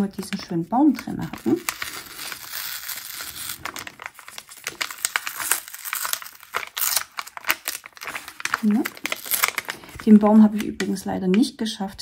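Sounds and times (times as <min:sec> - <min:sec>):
gift bag packaging rustling: 0:00.0 - 0:11.3.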